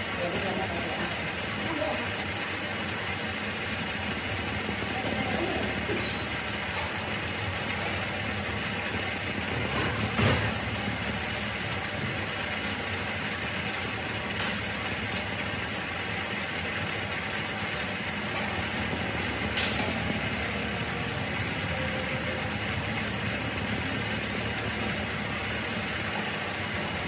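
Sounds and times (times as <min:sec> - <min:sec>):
workshop machinery whirring: 0:00.0 - 0:27.0.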